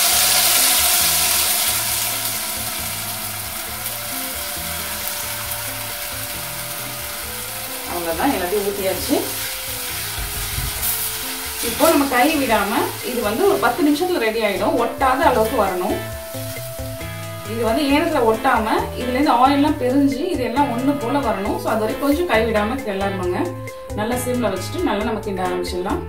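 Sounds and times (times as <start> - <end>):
batter sizzling in oil: 0.0 - 25.6
background music: 0.0 - 26.0
voice in music: 1.2 - 26.0.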